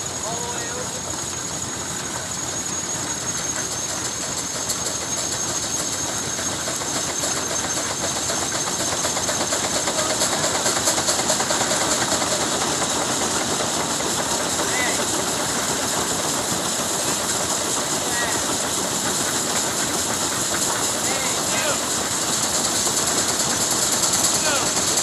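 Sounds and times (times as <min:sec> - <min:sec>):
steam engine exhaust chuffing: 0:00.0 - 0:25.0
steam hissing: 0:00.0 - 0:25.0.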